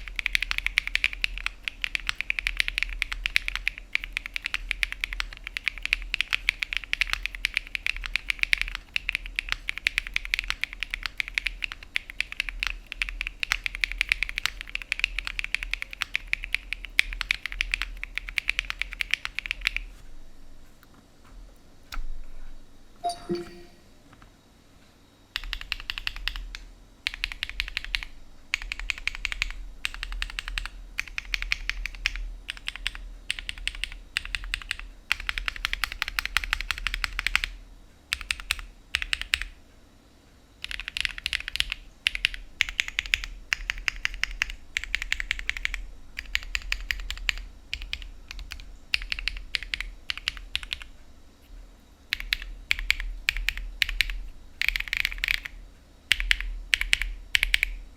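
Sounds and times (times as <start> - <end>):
mechanical keyboard typing: 0.0 - 19.8, 25.4 - 37.5, 38.1 - 39.6, 40.6 - 50.9, 52.1 - 57.8.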